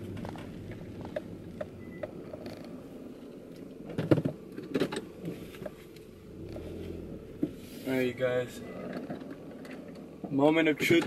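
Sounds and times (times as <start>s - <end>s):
car interior hum: 0.0s - 11.0s.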